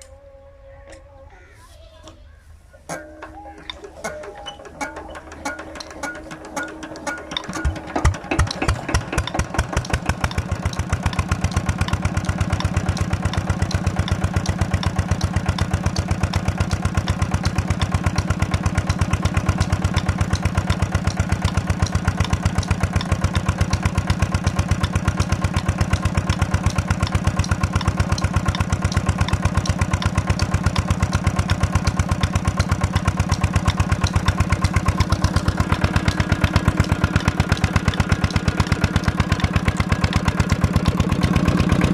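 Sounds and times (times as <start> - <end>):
diesel engine chugging: 2.8 - 41.9.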